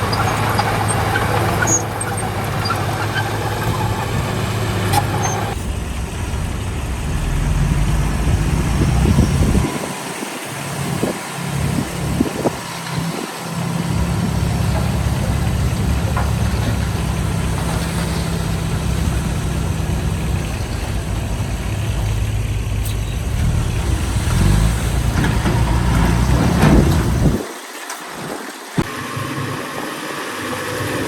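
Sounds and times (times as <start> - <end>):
heavy diesel engine running: 0.0 - 27.4, 28.8 - 31.0.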